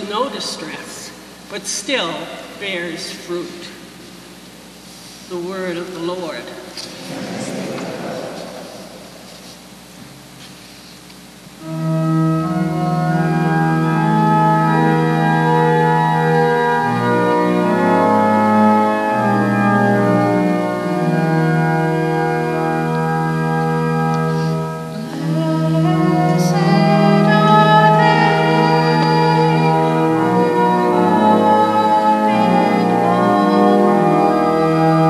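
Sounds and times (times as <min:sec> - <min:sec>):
organ playing slow chords: 0:05.7 - 0:35.0.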